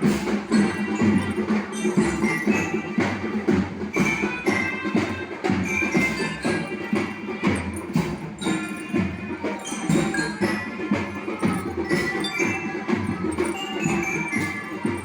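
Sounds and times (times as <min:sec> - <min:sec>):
mallet bells melody: 0:00.0 - 0:15.0
marching band drums: 0:00.0 - 0:15.0.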